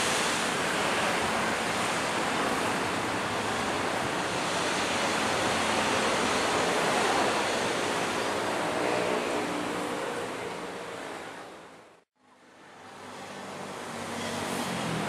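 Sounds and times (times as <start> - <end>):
background traffic: 0.0 - 15.0
wind: 0.0 - 15.0.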